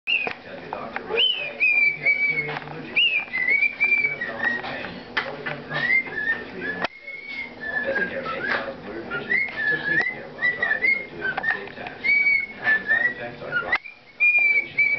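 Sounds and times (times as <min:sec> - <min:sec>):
cockatiel whistling: 0:00.1 - 0:00.4, 0:01.1 - 0:05.0, 0:05.7 - 0:14.9.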